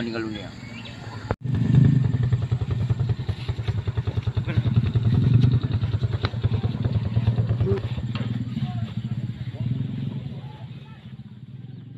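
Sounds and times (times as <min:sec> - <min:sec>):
vehicle engine idling: 0:00.0 - 0:11.9.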